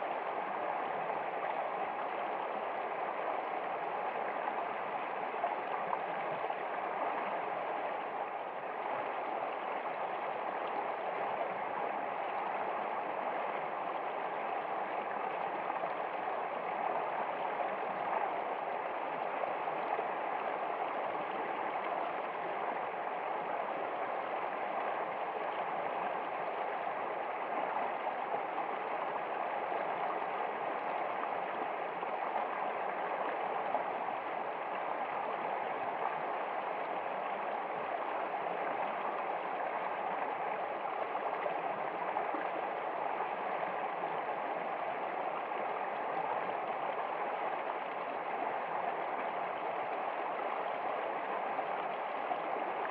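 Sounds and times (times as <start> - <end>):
stream water babbling: 0.0 - 52.9.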